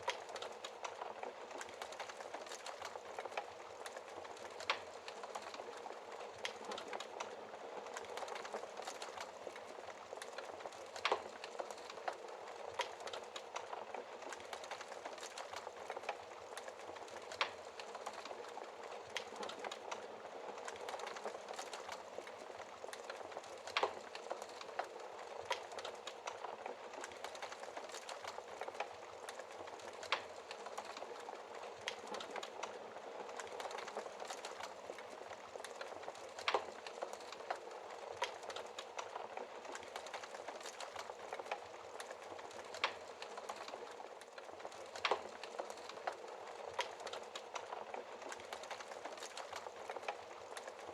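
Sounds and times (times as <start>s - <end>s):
logs crackling and popping: 0.0s - 50.9s.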